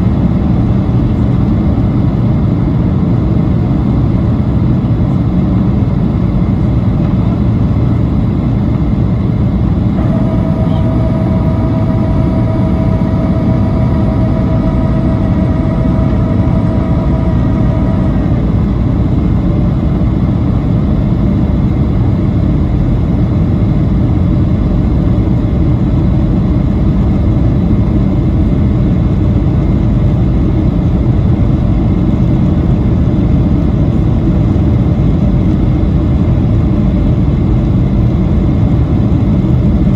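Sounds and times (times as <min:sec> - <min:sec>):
airplane cabin roar: 0:00.0 - 0:39.9
steady higher whine: 0:00.0 - 0:39.9.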